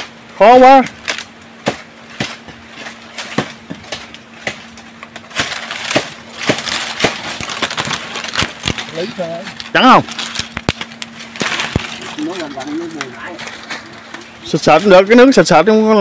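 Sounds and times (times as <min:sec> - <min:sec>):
dry palm fronds crackling: 0:00.0 - 0:16.0
rustling fronds: 0:00.0 - 0:16.0.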